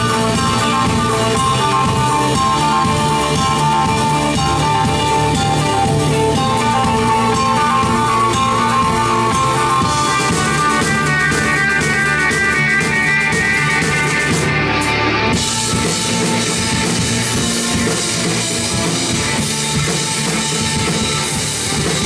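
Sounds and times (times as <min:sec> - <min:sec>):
bass guitar: 0:00.0 - 0:22.0
drum kit: 0:00.0 - 0:22.0
electric guitars: 0:00.0 - 0:22.0.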